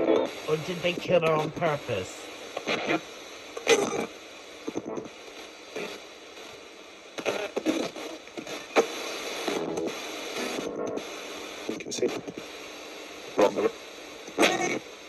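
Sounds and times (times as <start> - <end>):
choppy broadcast snippets: 0.0 - 15.0
radio static hiss: 0.0 - 15.0.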